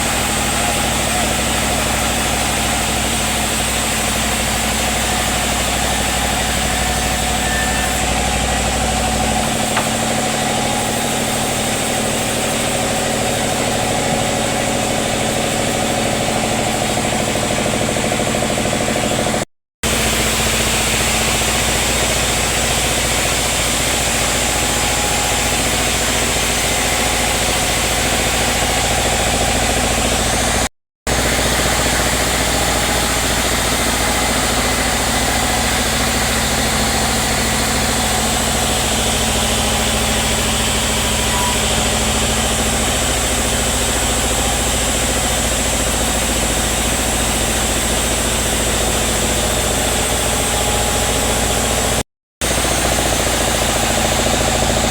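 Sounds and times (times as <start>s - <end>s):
sawmill machinery humming: 0.0s - 54.9s.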